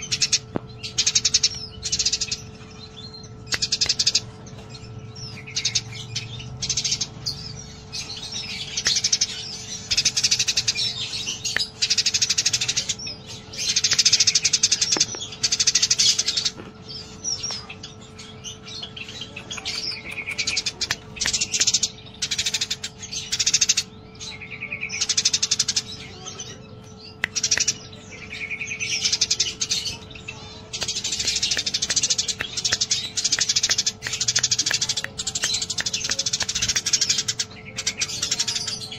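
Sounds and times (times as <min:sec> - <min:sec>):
faint steady hum: 0:00.0 - 0:38.9
sparrows chirping: 0:00.0 - 0:38.9.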